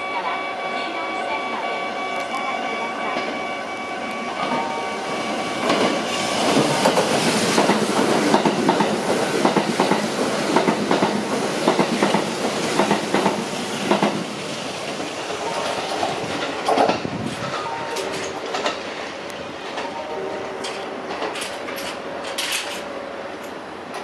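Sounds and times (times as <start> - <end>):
electric train whine: 0.0 - 24.0.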